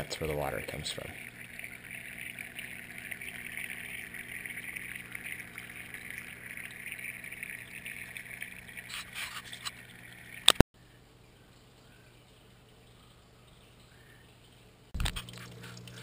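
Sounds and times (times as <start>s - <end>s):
stream trickling: 0.0s - 16.0s.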